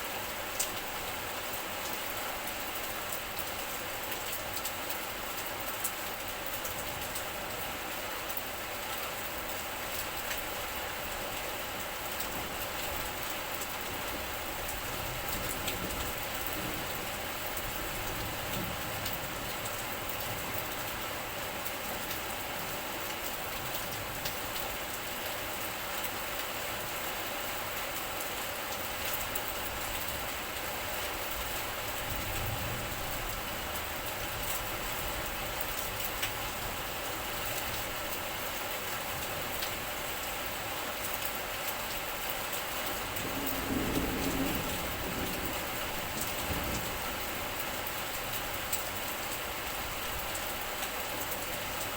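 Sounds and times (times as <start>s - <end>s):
steady rain hiss: 0.0s - 51.9s.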